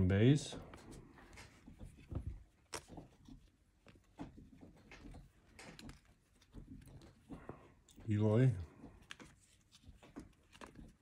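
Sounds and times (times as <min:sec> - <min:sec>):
cards rustling and tapping: 0:00.0 - 0:11.0.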